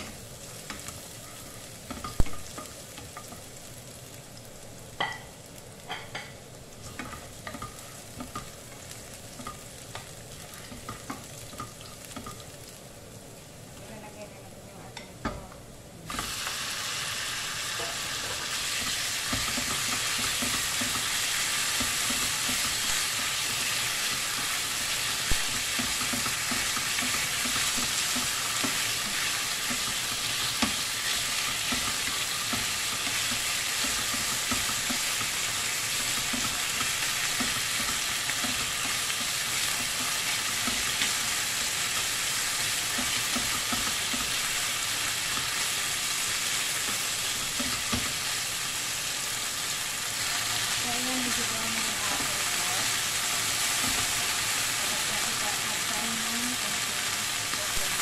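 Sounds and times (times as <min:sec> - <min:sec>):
meat sizzling in oil: 0:00.0 - 0:14.5, 0:16.0 - 0:58.0.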